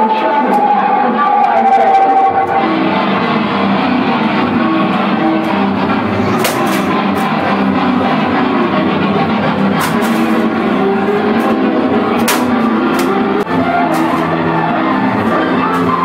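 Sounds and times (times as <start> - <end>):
live heavy band music: 0.0 - 16.0
sharp hits: 0.6 - 16.0.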